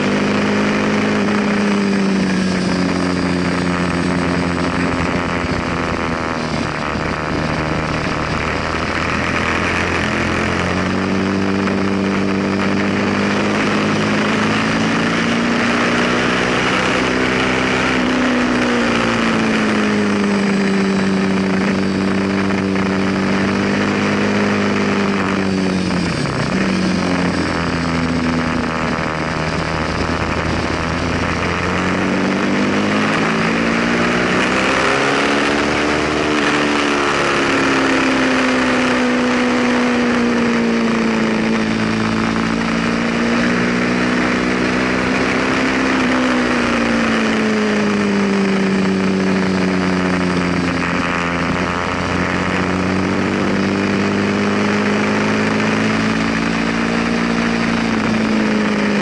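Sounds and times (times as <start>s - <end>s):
heavy wind rush: 0.0s - 59.0s
motorcycle engine accelerating: 0.0s - 59.0s.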